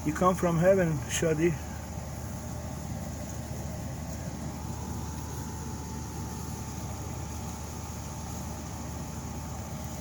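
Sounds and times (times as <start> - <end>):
faint constant hum: 0.0 - 10.0
low background rumble: 0.0 - 10.0.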